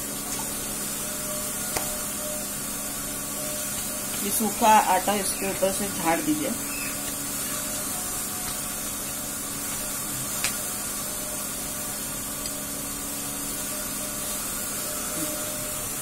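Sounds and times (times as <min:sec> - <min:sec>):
gas burner hissing: 0:00.0 - 0:16.0.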